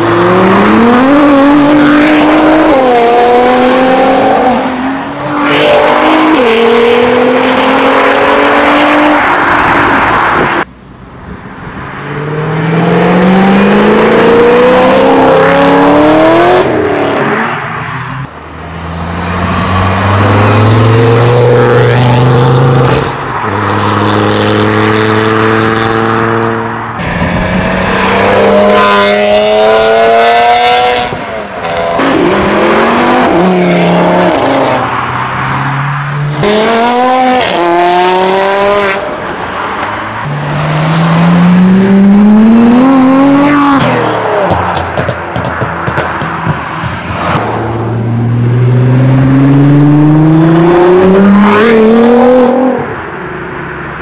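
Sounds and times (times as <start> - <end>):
cars accelerating hard: 0.0 - 10.7, 11.7 - 53.1.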